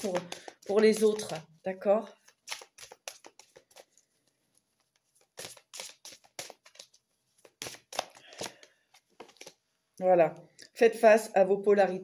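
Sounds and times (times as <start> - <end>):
cards shuffling and rustling: 0.0 - 9.6.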